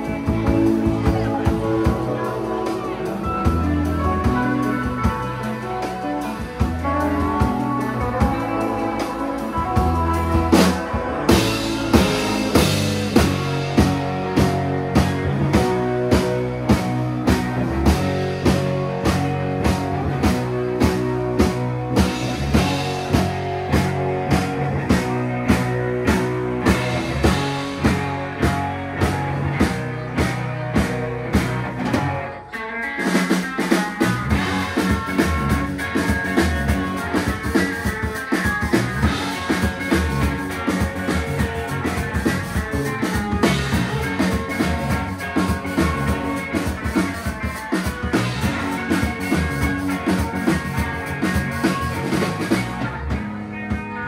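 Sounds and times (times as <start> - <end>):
drum kit beat: 0.0 - 54.0
electric bass: 0.0 - 54.0
electric guitars: 0.0 - 54.0.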